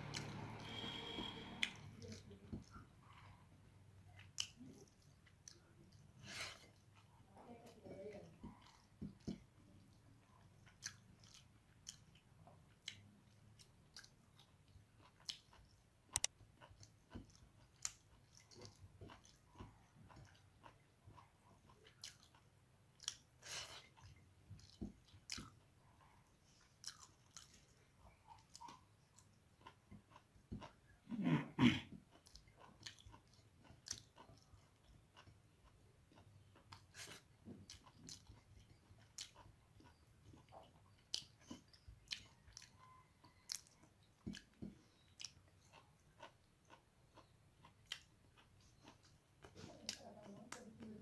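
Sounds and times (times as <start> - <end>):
close chewing with mouth clicks: 0.0 - 51.0.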